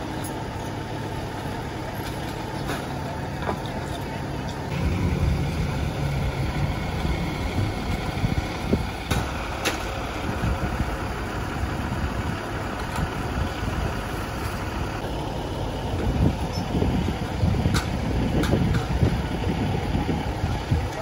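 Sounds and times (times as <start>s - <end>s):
fire engine idling: 0.0s - 21.0s.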